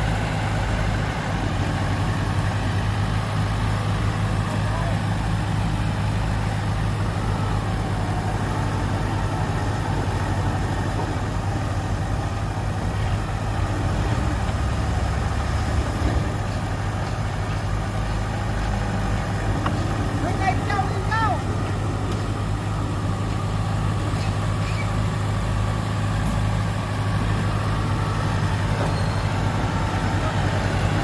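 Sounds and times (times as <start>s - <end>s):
heavy diesel engine idling: 0.0s - 31.0s.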